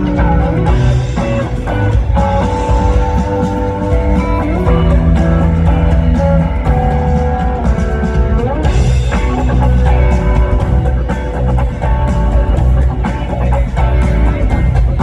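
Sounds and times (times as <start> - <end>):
electric guitar bending notes: 0.0 - 15.0
live rock band playing: 0.0 - 15.0.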